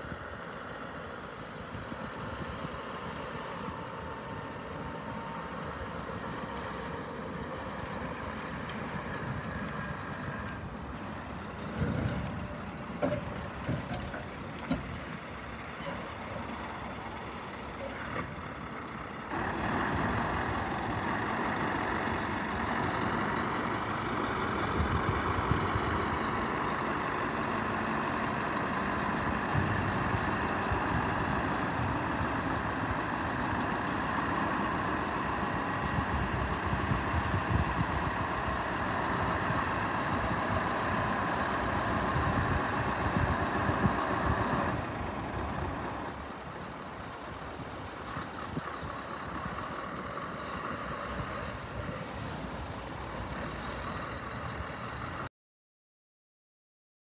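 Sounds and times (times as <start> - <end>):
diesel truck engine running: 0.0 - 55.3.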